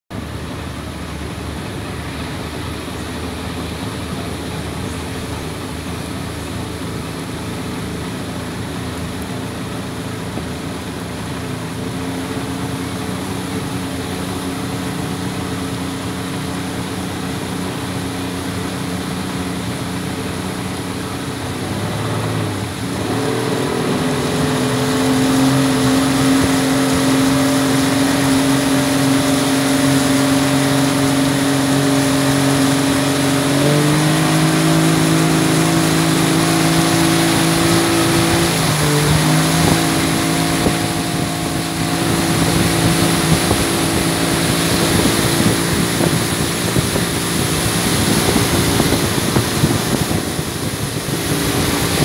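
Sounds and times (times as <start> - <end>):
outboard motor running: 0.1 - 52.0
water rushing along hull: 0.1 - 52.0.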